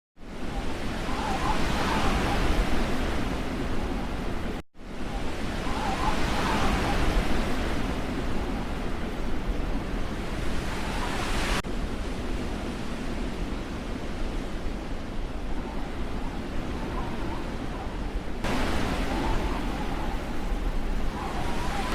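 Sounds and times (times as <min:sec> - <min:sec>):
rushing wind gusts: 0:00.2 - 0:21.9.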